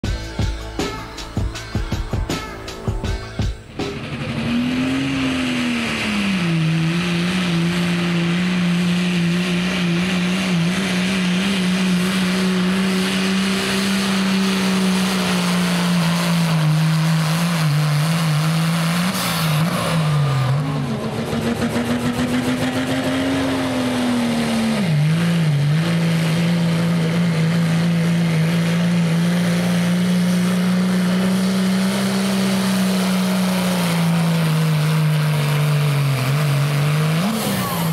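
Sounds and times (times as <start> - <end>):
truck engines at full throttle: 0.0 - 37.9.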